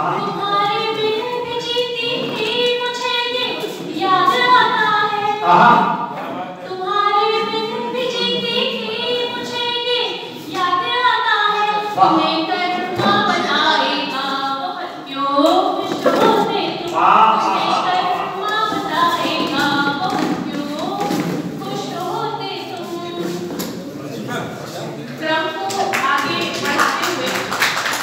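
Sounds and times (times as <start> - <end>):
woman singing unaccompanied: 0.0 - 5.8, 6.7 - 23.5.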